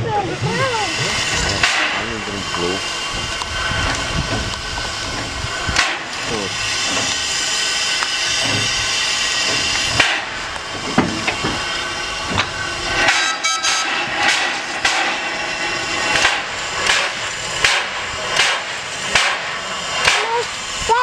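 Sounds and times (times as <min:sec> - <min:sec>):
steam hissing: 0:00.0 - 0:21.0.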